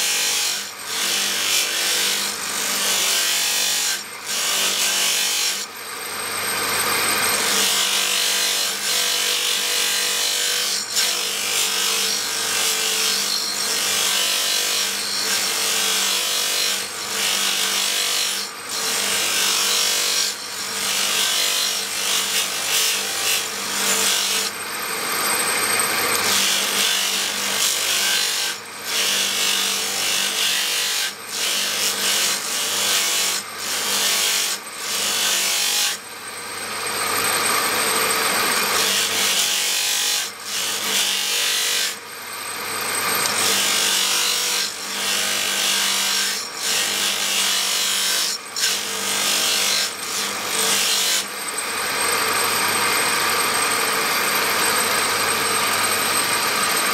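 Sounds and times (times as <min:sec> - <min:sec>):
knife grinding on grinding wheel: 0:00.0 - 0:56.9.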